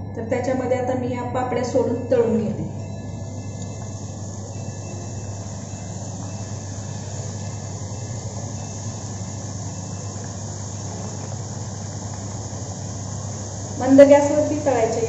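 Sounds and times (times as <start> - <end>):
steady low hum: 0.0 - 15.0
crisps sizzling in hot oil: 2.8 - 15.0.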